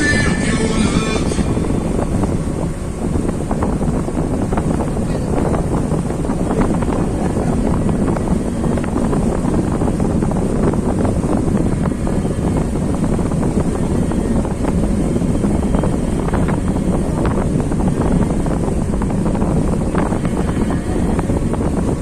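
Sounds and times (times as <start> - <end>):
motorboat engine and water rush: 0.0 - 22.0
wind buffeting microphone: 0.0 - 22.0.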